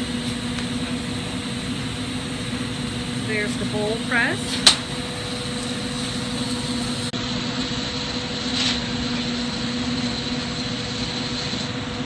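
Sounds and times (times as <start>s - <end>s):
low hum: 0.0s - 12.0s
torch flame roaring: 0.0s - 12.0s.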